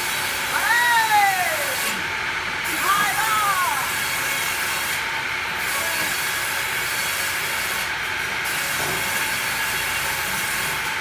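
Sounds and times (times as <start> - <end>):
wood-cutting machine hissing: 0.0 - 11.0.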